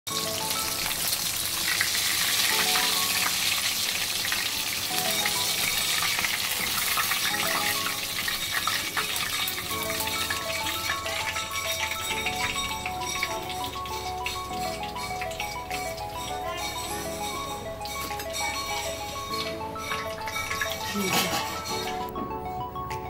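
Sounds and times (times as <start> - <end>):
fish frying in oil: 0.1 - 22.1
background music: 0.1 - 23.0.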